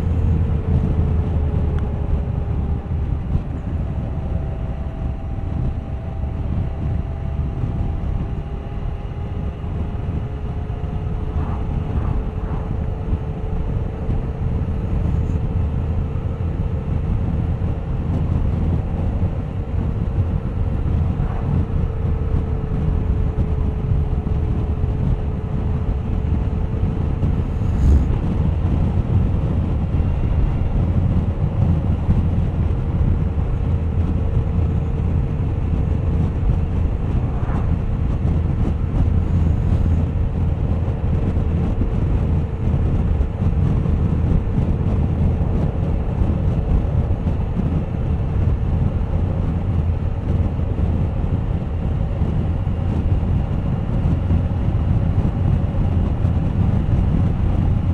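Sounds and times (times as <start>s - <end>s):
motorcycle engine cruising: 0.0s - 53.4s
wind rush on microphone: 0.0s - 57.9s.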